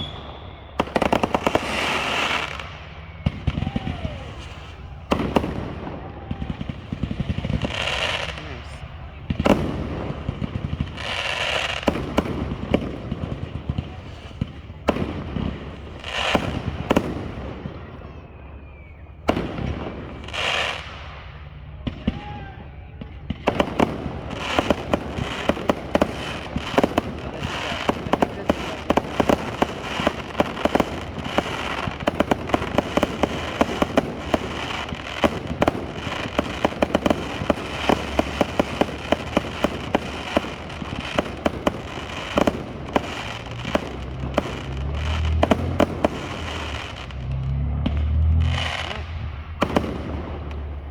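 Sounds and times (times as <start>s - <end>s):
rapid crackling fireworks: 0.0s - 50.9s.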